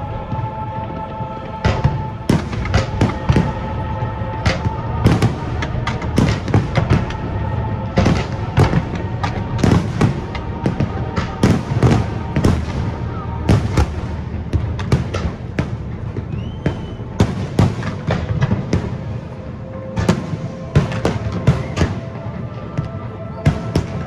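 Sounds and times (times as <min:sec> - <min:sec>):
fireworks bangs and crackles: 0:00.0 - 0:24.0
music playing: 0:00.0 - 0:24.0.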